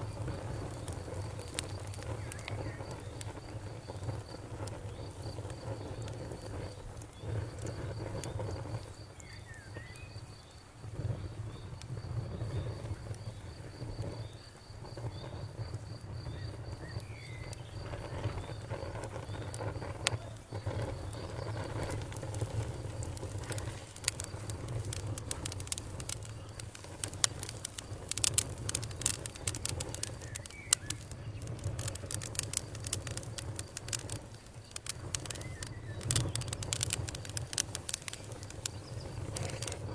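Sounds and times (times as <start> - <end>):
insect trilling: 0.0 - 8.1, 12.7 - 39.9
campfire crackling and popping: 0.0 - 39.9.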